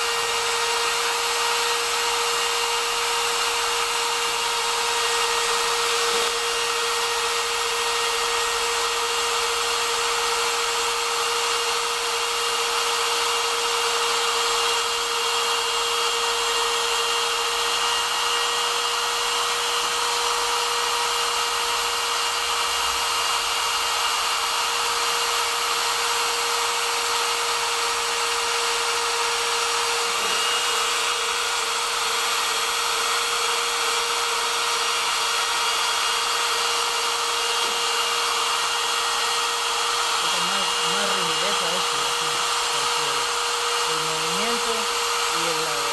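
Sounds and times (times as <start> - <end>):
router bit cutting wood: 0.0 - 45.9
router spindle motor whining: 0.0 - 45.9.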